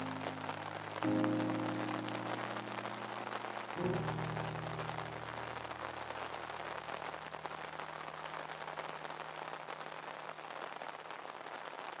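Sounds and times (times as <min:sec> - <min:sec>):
rain on a tarp: 0:00.0 - 0:12.0.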